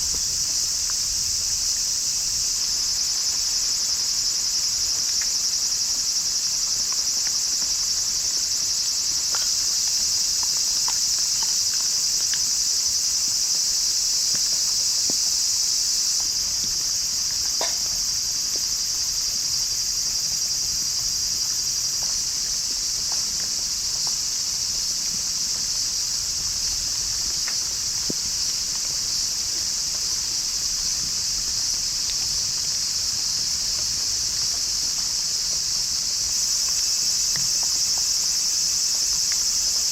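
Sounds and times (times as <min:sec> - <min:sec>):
crickets and night insects trilling: 0:00.0 - 0:39.9.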